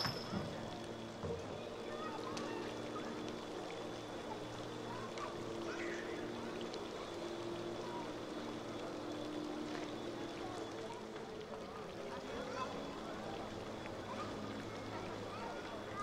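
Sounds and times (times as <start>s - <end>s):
steady low city hum: 0.0s - 16.0s.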